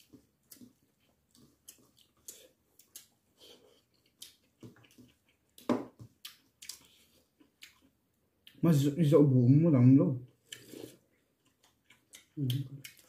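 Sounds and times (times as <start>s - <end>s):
wet chewing and lip smacking: 0.0s - 8.6s, 10.3s - 13.0s.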